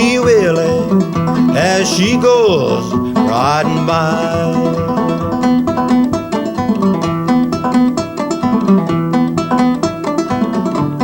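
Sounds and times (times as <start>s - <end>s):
banjo plucking: 0.0s - 11.0s.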